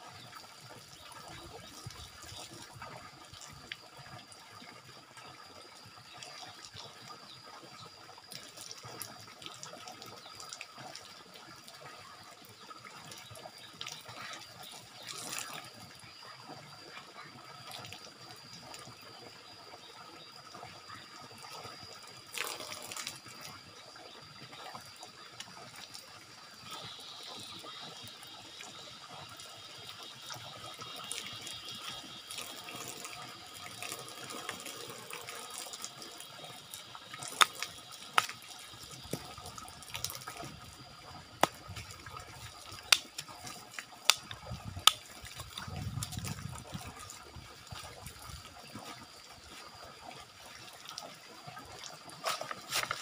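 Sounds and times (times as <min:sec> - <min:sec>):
water splashing from spout: 0:00.0 - 0:53.0.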